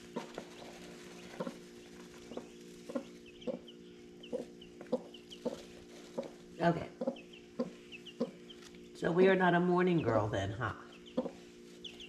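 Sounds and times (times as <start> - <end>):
chicks peeping: 0.0 - 12.0
hen clucking: 0.0 - 12.0.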